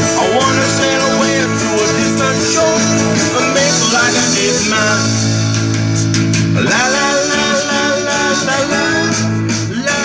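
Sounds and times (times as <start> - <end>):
man singing lead vocal: 0.0 - 5.6, 6.4 - 10.0
electric guitar: 0.0 - 10.0
live rock band playing: 0.0 - 10.0.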